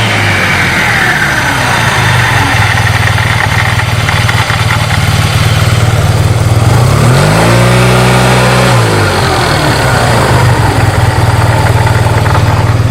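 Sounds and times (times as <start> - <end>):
scooter engine idling and revving: 0.0 - 12.9.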